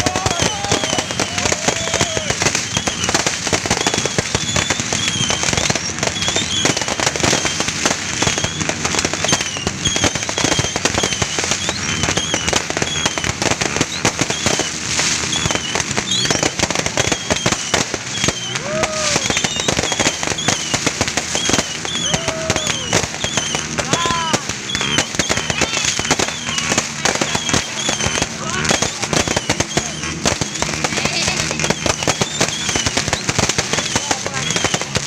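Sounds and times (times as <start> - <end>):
firecrackers crackling: 0.0 - 35.0
fireworks whistling: 0.0 - 35.0.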